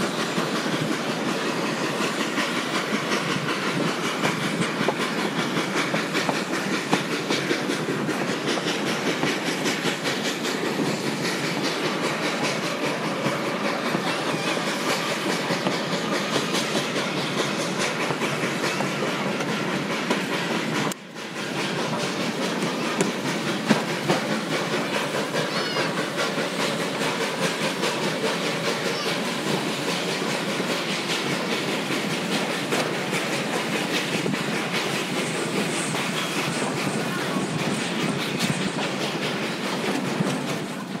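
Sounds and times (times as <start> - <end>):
train rumbling and rattling: 0.0 - 41.0
wheels clicking over rail joints: 0.0 - 41.0.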